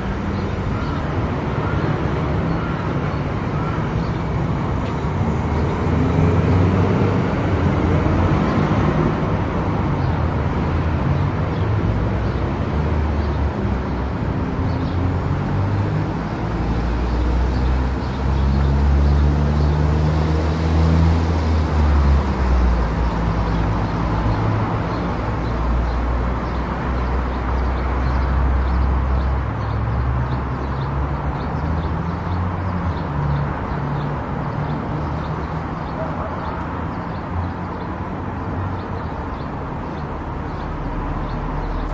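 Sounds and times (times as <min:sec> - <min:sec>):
road and tyre noise: 0:00.0 - 0:41.9.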